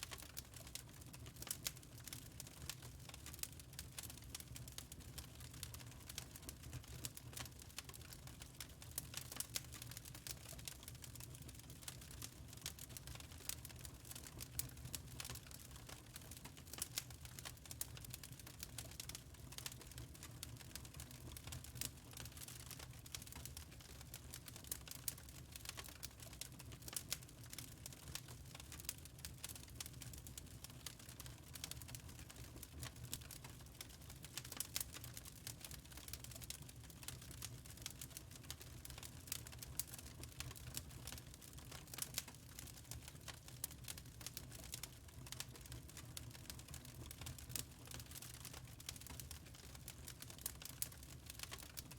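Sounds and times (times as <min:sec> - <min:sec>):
low steady fire rumble: 0:00.0 - 0:51.9
wood fire crackling: 0:00.0 - 0:51.9.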